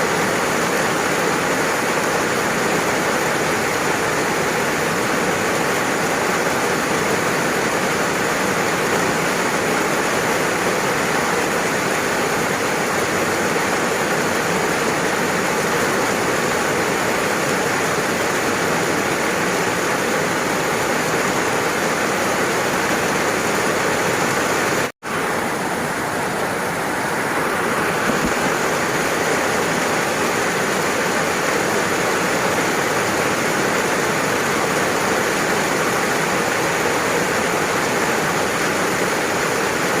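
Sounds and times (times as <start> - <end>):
dense rain hiss: 0.0 - 40.0.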